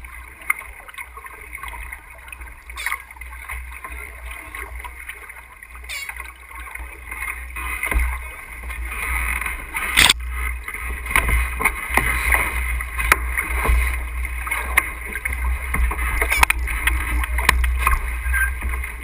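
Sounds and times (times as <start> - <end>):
water washing along hull: 0.0 - 19.0.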